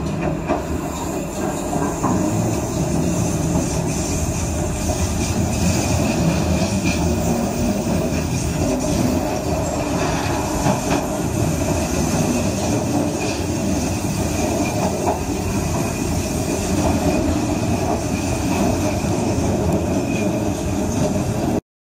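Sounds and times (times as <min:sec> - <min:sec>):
train wheels rumbling on rail: 0:00.0 - 0:21.6.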